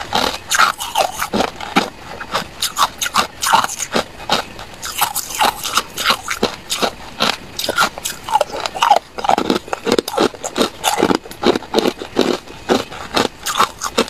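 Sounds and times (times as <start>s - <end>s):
ice cubes crunched by teeth: 0.0s - 14.0s.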